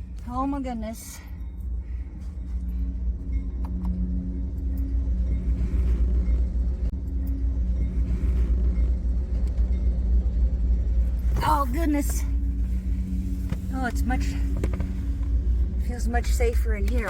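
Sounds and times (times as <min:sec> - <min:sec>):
steady hum: 0:00.0 - 0:17.0
train passing rumble: 0:00.0 - 0:17.0.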